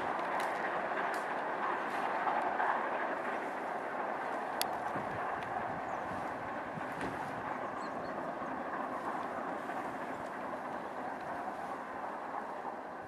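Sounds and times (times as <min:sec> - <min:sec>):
train coaches rolling on rails: 0:00.0 - 0:13.0.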